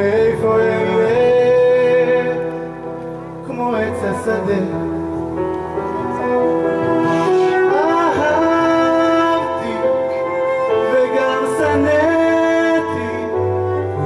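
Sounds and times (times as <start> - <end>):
man singing into microphone: 0.0 - 5.3, 6.8 - 14.0
instrumental accompaniment: 0.0 - 14.0.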